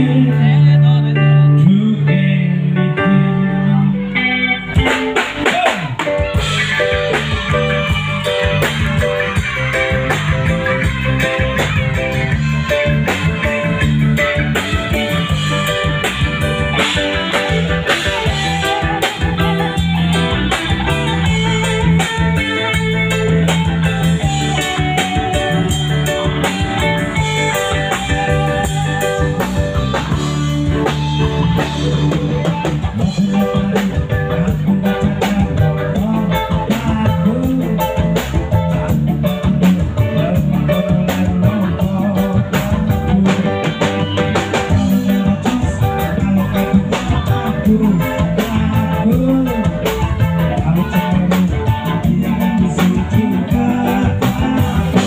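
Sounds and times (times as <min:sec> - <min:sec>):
bass line: 0:00.0 - 0:55.0
drum kit: 0:00.0 - 0:55.0
guitar: 0:00.0 - 0:55.0.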